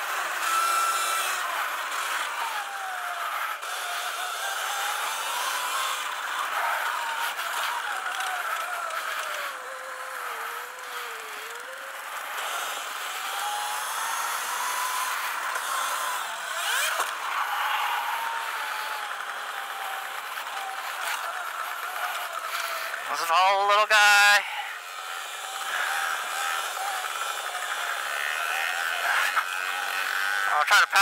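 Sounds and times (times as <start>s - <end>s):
electric motor whining: 0.0s - 31.0s.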